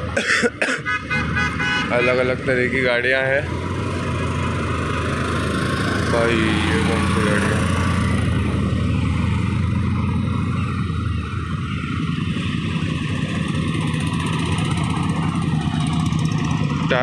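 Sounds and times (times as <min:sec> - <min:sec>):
motorcycle engines riding past: 0:00.8 - 0:17.0.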